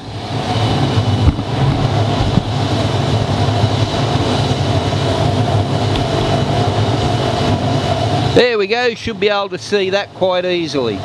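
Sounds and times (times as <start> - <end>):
burner flame roar: 0.0 - 11.0
thin steady whine: 0.0 - 11.0.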